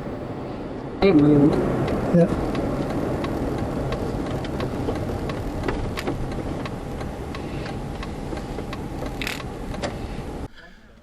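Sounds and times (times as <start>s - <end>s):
car road and engine rumble: 0.0s - 11.0s
regular ticking: 1.0s - 10.5s.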